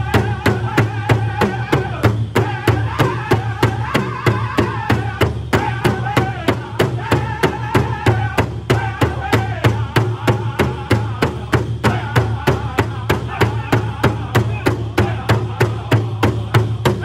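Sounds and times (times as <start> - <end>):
group singing: 0.0 - 17.0
large drum beating: 0.0 - 17.0.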